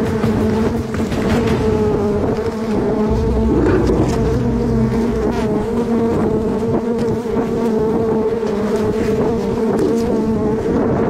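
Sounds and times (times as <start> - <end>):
swarm of bees buzzing: 0.0 - 11.0.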